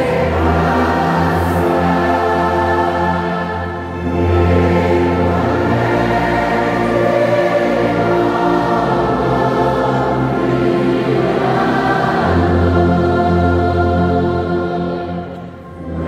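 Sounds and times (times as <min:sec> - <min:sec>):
congregation singing a hymn: 0:00.0 - 0:16.0.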